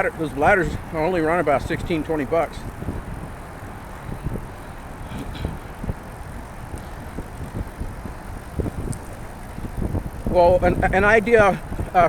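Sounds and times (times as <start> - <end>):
low bumps: 0.0 - 12.0
tyres rumbling on wet road: 0.0 - 12.0
wind on microphone: 0.0 - 12.0.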